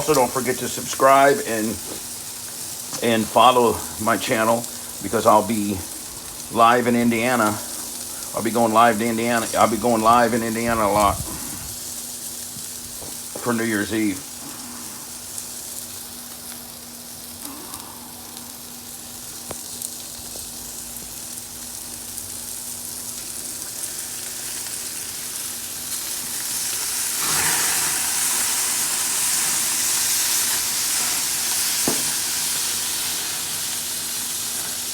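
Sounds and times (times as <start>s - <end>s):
food sizzling in a hot pan: 0.0s - 34.9s.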